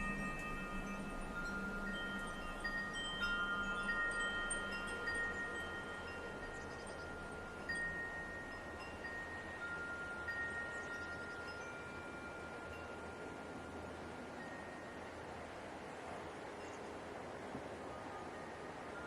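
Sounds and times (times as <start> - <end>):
wind chimes ringing: 0.0 - 15.8
soft steady hiss: 0.0 - 19.0.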